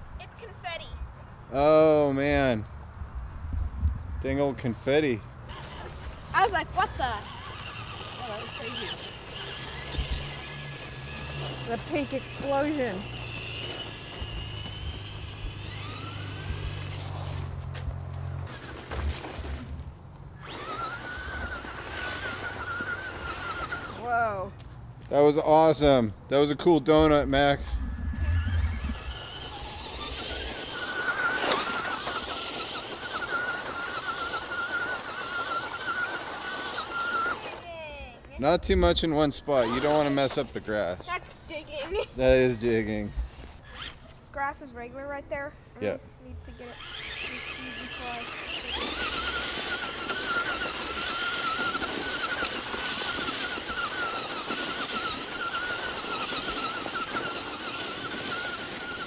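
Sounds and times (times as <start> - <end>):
toy car electric motor whining: 0.0 - 0.9, 1.5 - 2.6, 4.2 - 24.5, 25.1 - 59.0.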